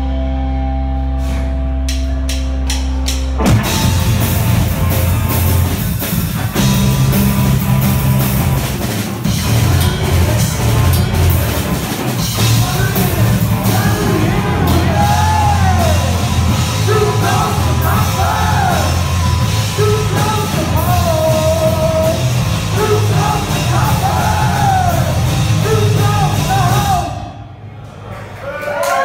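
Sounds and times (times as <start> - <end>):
electric guitar: 0.0 - 26.8
bass guitar: 0.0 - 27.5
drum kit: 1.2 - 27.4.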